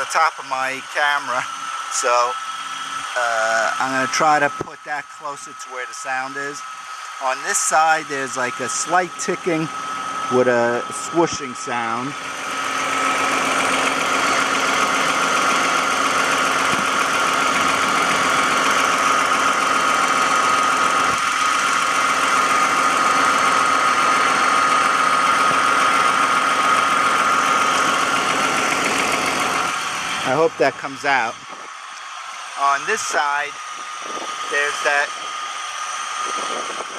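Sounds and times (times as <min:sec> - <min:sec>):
car engine running: 0:00.0 - 0:36.9
engine high whine: 0:00.0 - 0:36.9
engine ticking: 0:00.0 - 0:36.9.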